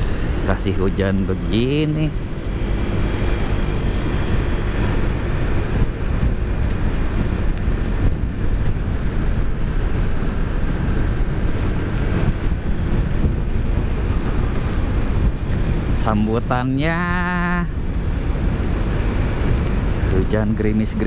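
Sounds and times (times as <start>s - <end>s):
tyre noise on damp road: 0.0s - 21.0s
wind rush over microphone: 0.0s - 21.0s.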